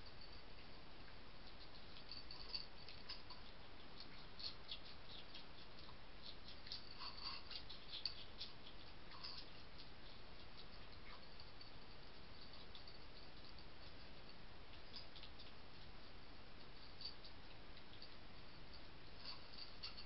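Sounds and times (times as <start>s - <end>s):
faint steady hiss: 0.0s - 20.0s
animals chewing food crunching: 0.5s - 20.0s.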